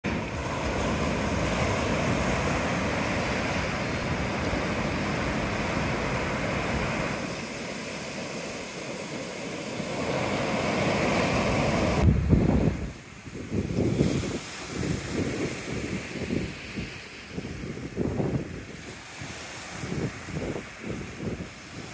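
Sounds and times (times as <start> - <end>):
ocean waves breaking: 0.0 - 21.9.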